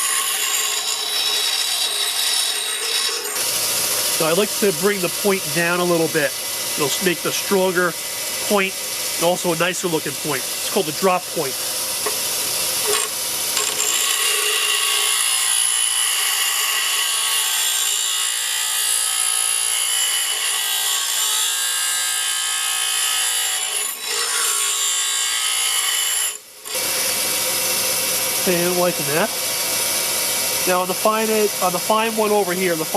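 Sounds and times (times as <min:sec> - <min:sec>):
bench grinder grinding steel: 0:00.0 - 0:32.9.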